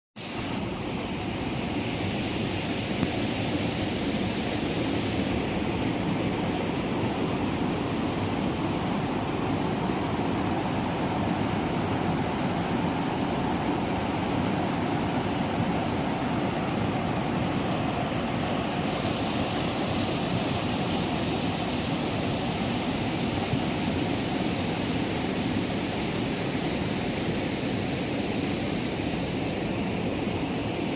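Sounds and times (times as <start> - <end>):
waterfall rushing: 0.2 - 30.9.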